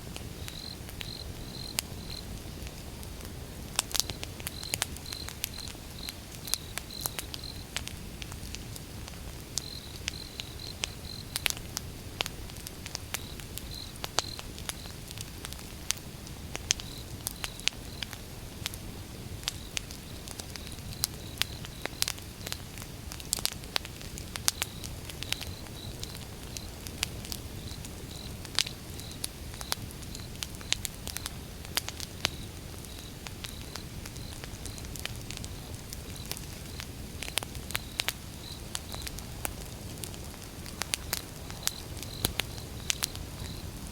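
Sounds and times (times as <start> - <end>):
fire crackling and popping: 0.0 - 43.9
low rumble of flame: 0.0 - 43.9.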